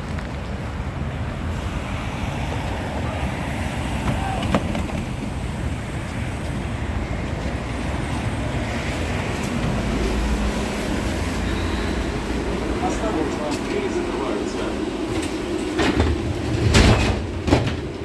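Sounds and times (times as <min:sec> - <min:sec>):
street traffic: 0:00.0 - 0:18.0
tram rumble and hum: 0:00.0 - 0:18.0.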